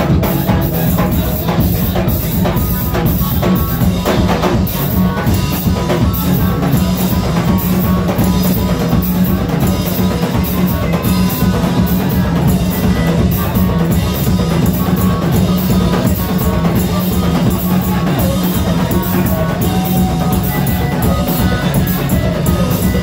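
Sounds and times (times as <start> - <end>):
drum kit steady beat: 0.0 - 23.0
electric guitar: 0.0 - 23.0.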